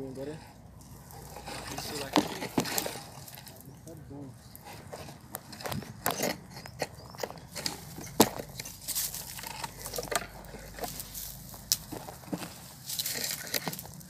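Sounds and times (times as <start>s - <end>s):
handling noise of leaves and twigs: 0.0s - 6.1s, 7.0s - 14.0s.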